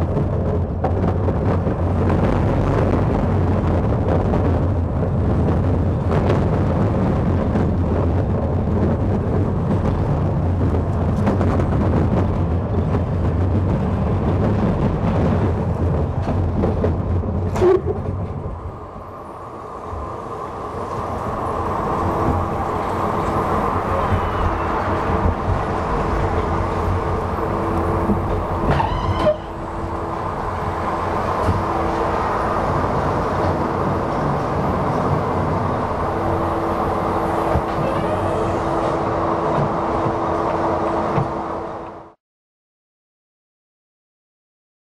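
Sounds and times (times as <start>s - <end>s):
roller coaster wheel rumble: 0.0s - 42.2s.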